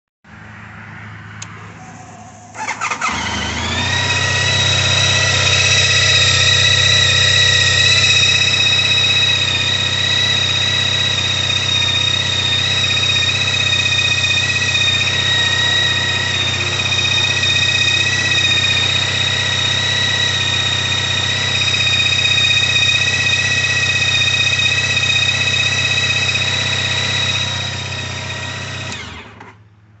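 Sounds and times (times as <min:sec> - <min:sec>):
high-pitched squeal: 0:01.4 - 0:29.1
motorcycle engine starting and idling: 0:01.4 - 0:29.9.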